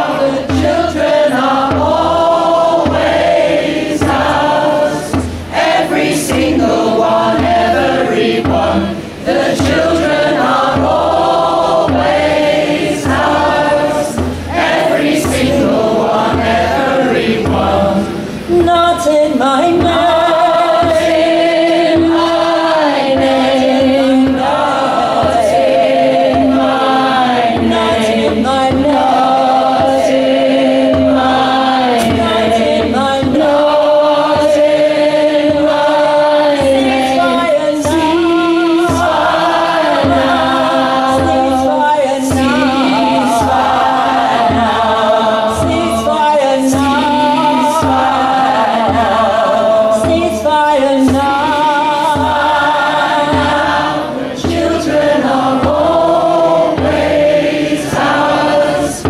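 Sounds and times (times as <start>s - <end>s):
women singing together: 0.0s - 59.0s.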